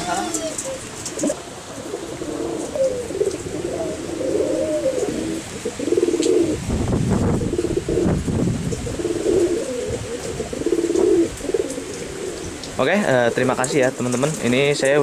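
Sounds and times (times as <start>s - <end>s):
pigeons cooing: 0.0s - 14.5s.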